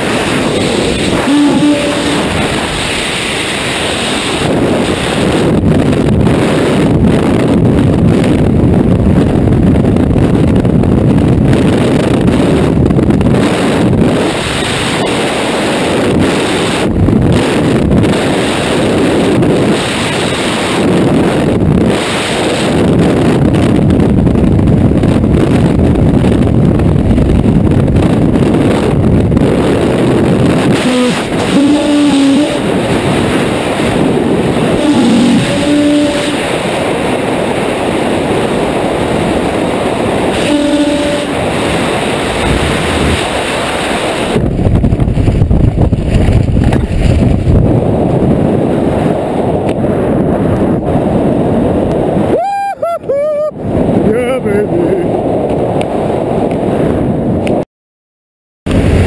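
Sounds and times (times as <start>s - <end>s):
parachute opening rumble: 0.0s - 52.4s
wind rushing and buffeting: 0.0s - 57.6s, 58.6s - 59.0s.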